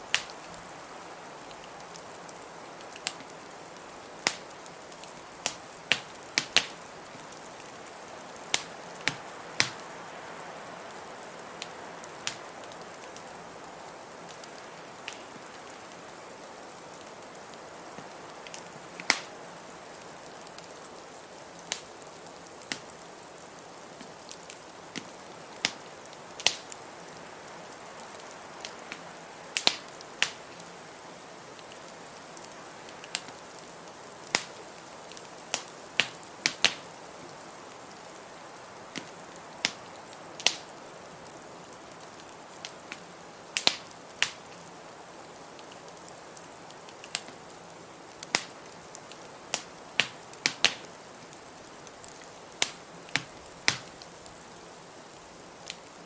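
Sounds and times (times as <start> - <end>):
soft fire hiss: 0.0 - 56.0
wood fire crackling: 0.0 - 56.0.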